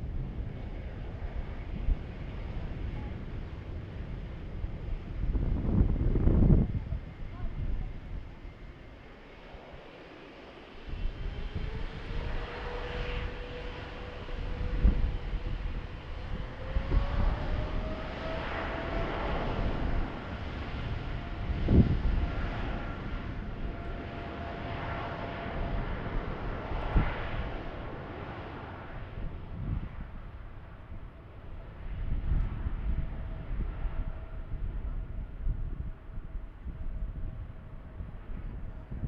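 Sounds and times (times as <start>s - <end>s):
jet engine roar with whine: 0.0s - 39.0s
wind gusts on microphone: 0.0s - 39.0s.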